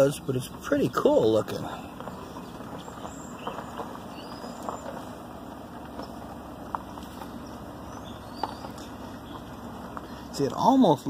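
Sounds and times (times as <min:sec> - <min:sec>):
vehicle rumble from inside cab: 0:00.0 - 0:11.0.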